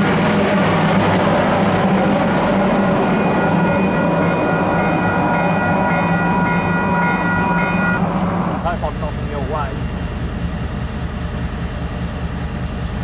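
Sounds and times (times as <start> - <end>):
high whining tones: 0.0 - 10.7
electric locomotive rumbling past: 0.0 - 13.0.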